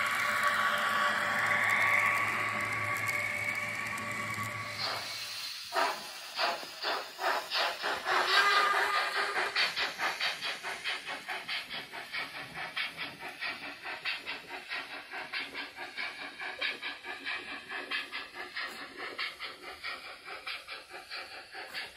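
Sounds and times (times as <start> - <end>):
steam hissing: 0.0 - 21.9
steam locomotive chuffing: 0.0 - 21.9.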